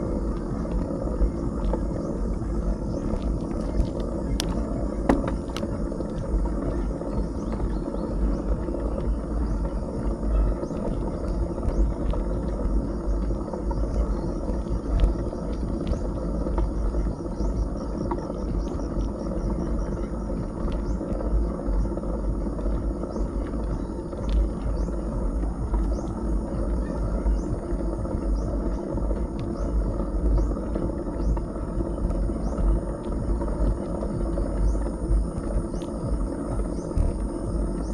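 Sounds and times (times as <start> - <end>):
bicycle tyre noise on road: 0.0 - 37.9
wind buffeting microphone: 0.0 - 37.9.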